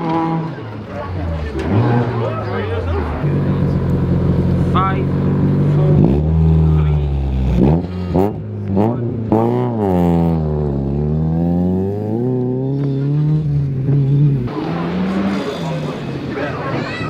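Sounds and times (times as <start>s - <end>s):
rally car engine revving: 0.0s - 16.8s.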